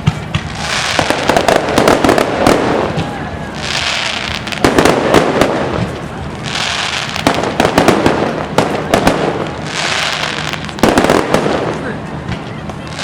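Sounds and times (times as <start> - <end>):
firework shells bursting: 0.0 - 13.0
high crackling hiss: 0.0 - 13.0.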